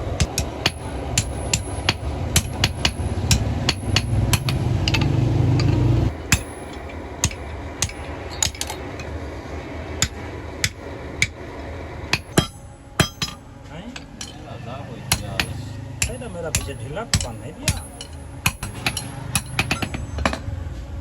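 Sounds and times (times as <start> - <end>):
hammer striking metal on anvil: 0.0 - 9.2, 10.0 - 20.5
low steady hum: 0.0 - 21.0.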